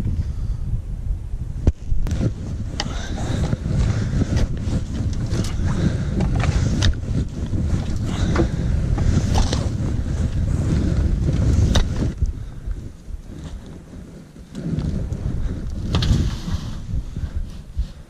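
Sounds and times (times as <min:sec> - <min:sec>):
wind buffeting microphone: 0:00.0 - 0:18.0
hand tools digging earth: 0:02.0 - 0:17.0.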